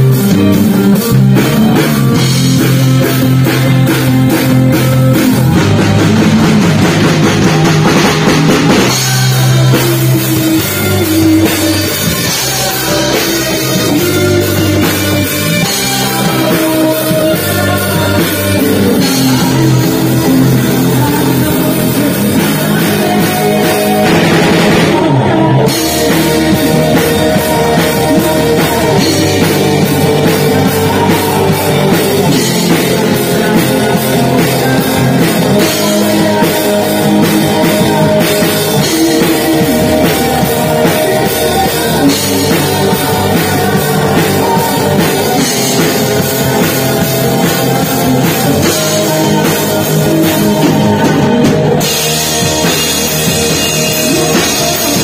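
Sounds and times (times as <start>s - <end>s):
bass guitar: 0.0s - 55.0s
drum kit: 0.0s - 55.0s
electric guitar: 0.0s - 55.0s
keyboard: 0.0s - 55.0s.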